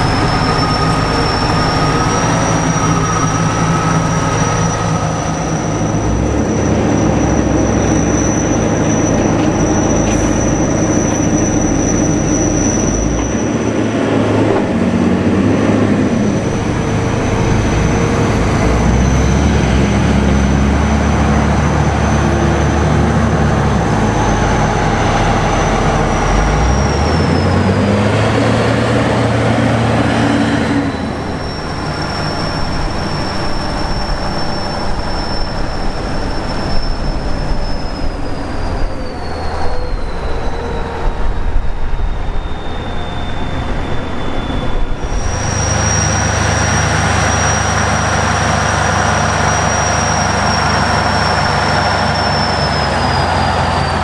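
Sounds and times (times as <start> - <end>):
high whine sliding down: 0.0 - 54.0
tractor diesel engine under load: 0.0 - 54.0.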